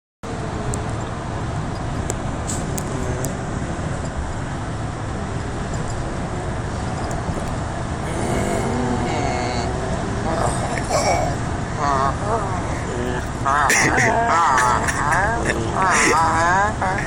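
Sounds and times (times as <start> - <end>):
car cabin road rumble: 0.3 - 17.0.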